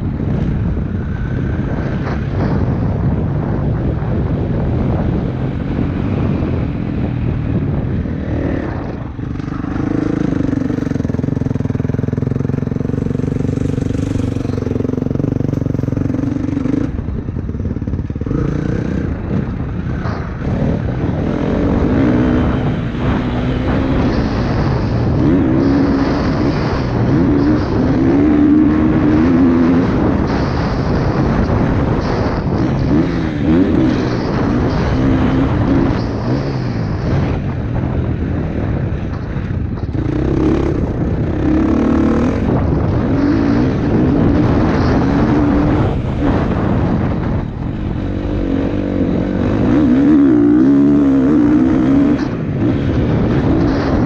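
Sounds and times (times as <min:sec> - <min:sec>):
motocross motorcycle engines revving: 0:00.0 - 0:54.0.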